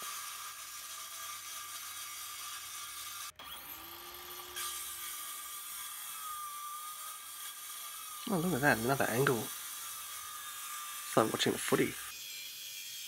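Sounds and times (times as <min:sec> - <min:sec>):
circular saw cutting: 0:00.0 - 0:13.0.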